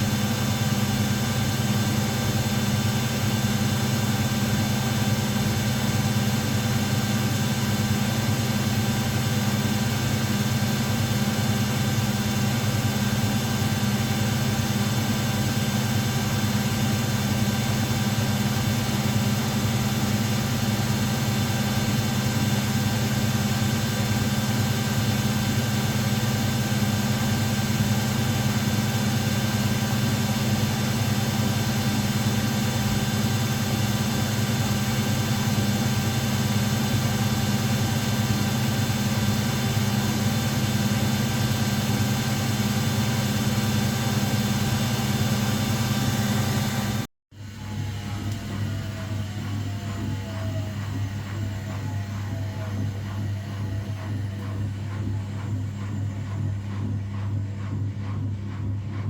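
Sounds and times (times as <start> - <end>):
washing machines humming: 0.0 - 59.0.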